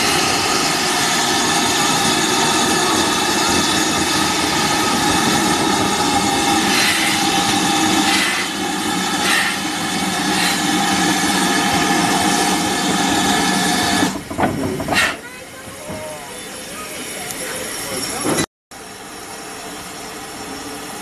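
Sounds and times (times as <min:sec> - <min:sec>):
locomotive steam hissing: 0:00.0 - 0:21.0.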